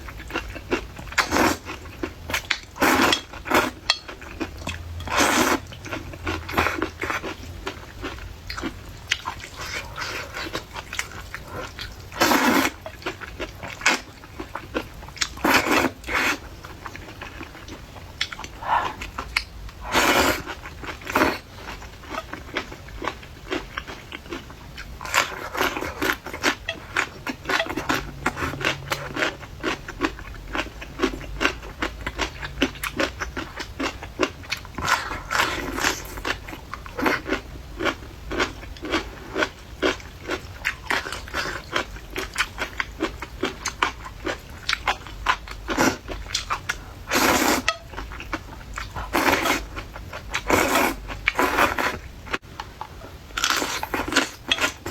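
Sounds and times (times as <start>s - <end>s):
chewing crunchy food: 0.0s - 54.9s.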